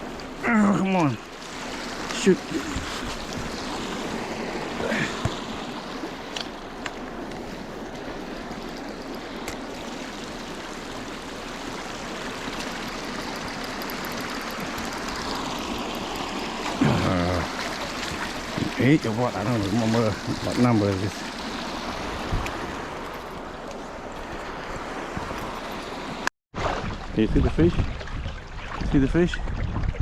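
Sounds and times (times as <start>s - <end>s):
river current over shallows: 0.0s - 30.0s.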